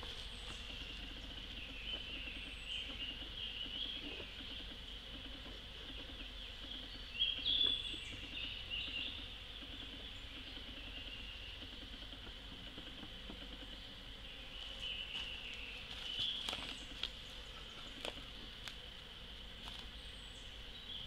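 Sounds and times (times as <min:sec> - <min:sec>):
birds chirping: 0:00.0 - 0:21.0
high insect drone: 0:00.0 - 0:21.0
honey bees buzzing: 0:00.0 - 0:21.0.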